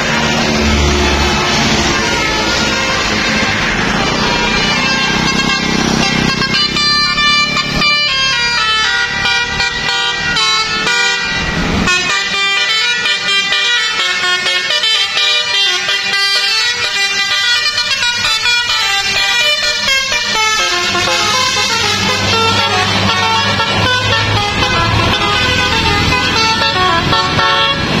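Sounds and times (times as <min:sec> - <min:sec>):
bus engine running: 0:00.0 - 0:28.0
multi-tone air horn playing a tune: 0:01.2 - 0:28.0.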